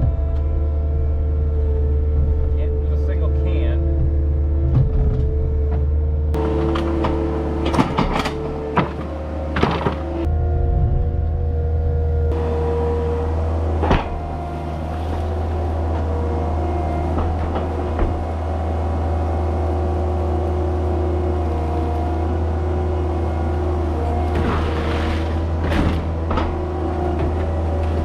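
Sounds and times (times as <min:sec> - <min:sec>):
skid steer engine droning: 0:00.0 - 0:28.0.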